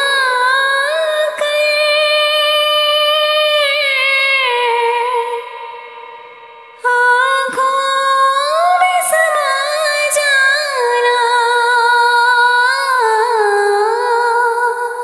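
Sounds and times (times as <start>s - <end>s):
woman singing a devotional hymn: 0.0s - 5.7s, 6.8s - 15.0s.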